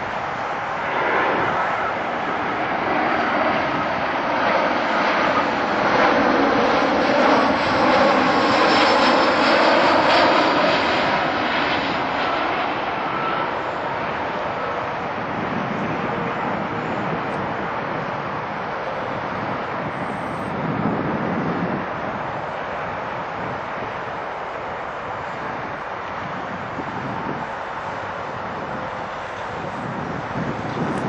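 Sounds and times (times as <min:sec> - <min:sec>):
jet engines roaring overhead: 0:00.0 - 0:31.0.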